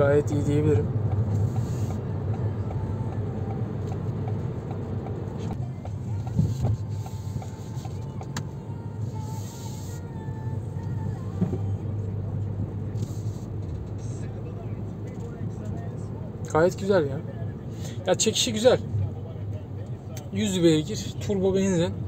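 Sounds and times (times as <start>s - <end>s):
car engine and tyre hum: 0.0s - 22.0s.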